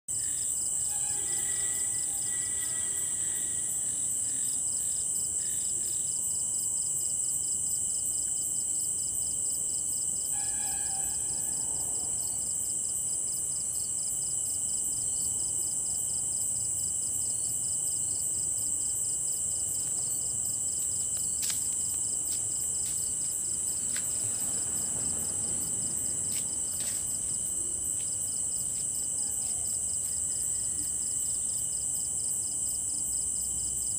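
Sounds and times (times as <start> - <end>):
crickets trilling: 0.1 - 33.9.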